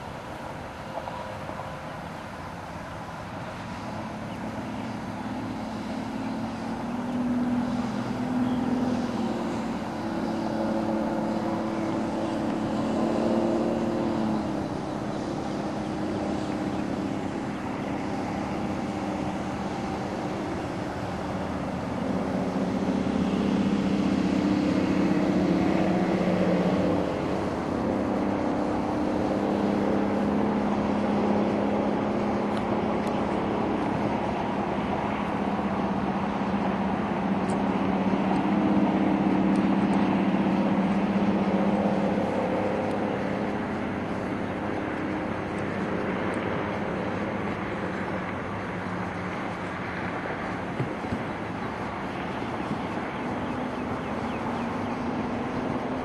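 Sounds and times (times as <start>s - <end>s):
outboard motor running: 2.7s - 56.0s.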